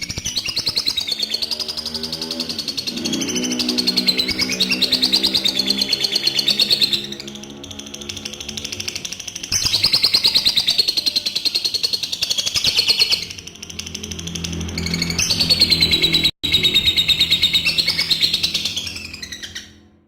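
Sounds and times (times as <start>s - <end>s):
lovebird chattering: 0.0s - 19.8s.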